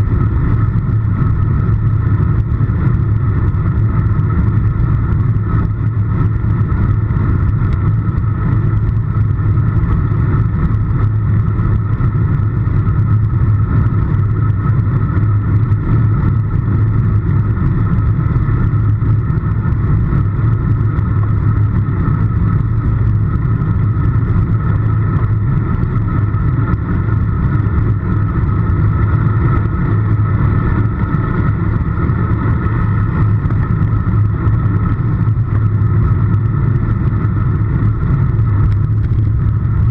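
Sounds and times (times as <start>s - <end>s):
bike road noise rumble: 0.0s - 39.9s
wind rush on microphone: 0.0s - 39.9s.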